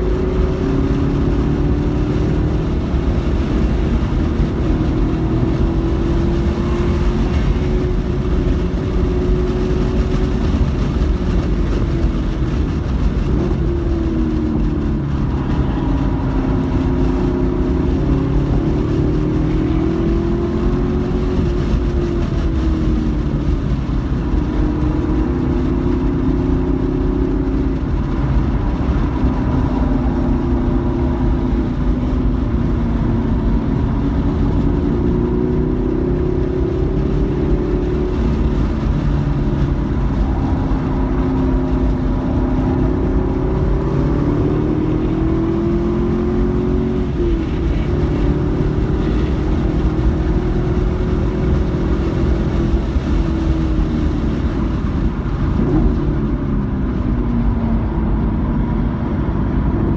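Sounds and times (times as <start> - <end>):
car engine running hard: 0.0 - 59.9
wind and road noise: 0.0 - 59.9.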